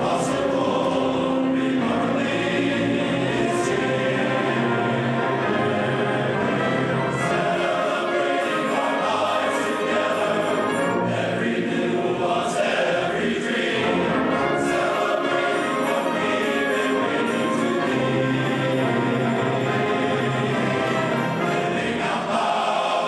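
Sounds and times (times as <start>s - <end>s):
concert band of wind instruments: 0.0s - 23.0s
men's chorus singing: 0.0s - 23.0s.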